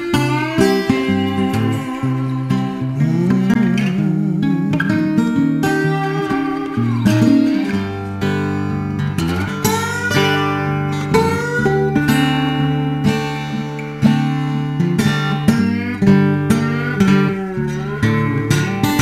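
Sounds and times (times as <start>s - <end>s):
slide blues guitar: 0.0s - 19.0s.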